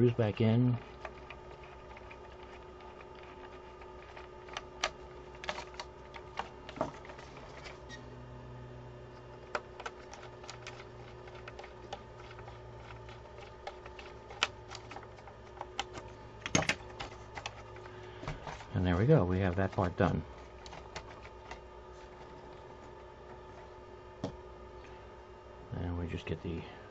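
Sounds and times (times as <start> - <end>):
faint steady hum: 0.0 - 26.9
hands handling plastic: 0.1 - 8.0, 9.1 - 25.0.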